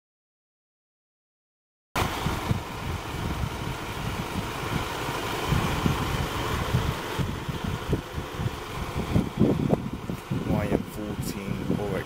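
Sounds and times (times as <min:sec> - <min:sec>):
bus diesel engine rumble: 0:02.0 - 0:12.0
wind buffeting microphone: 0:02.0 - 0:12.0.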